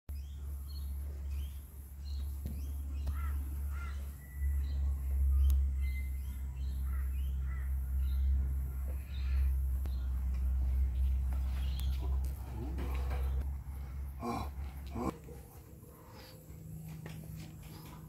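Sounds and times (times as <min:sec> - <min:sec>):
birds calling: 0:00.1 - 0:18.0.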